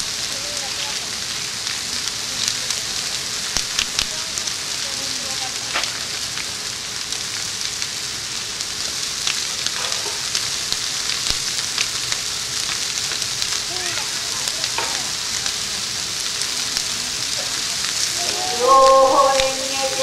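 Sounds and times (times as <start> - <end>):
bonfire hissing: 0.0 - 20.0
wood crackling and popping: 0.0 - 20.0.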